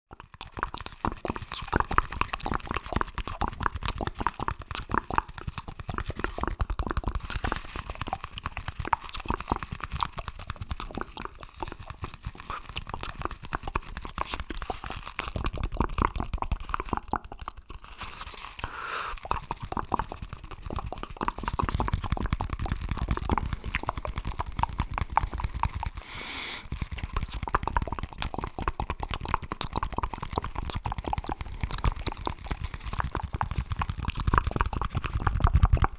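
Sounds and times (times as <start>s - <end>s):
mouth sounds: 0.1s - 35.9s.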